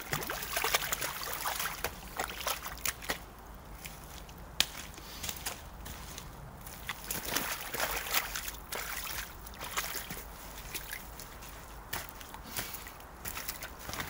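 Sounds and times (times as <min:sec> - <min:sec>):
boots squelching through mud: 0:00.0 - 0:14.0.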